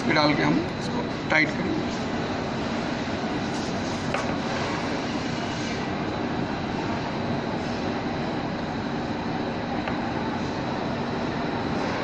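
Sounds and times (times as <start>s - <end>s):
steady mechanical noise: 0.0s - 12.0s.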